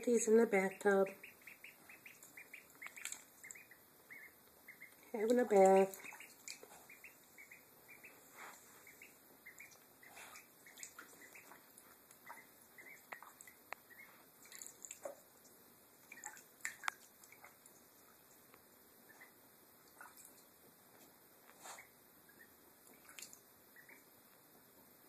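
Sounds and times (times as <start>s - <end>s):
ducklings splashing in water: 0.0s - 24.3s.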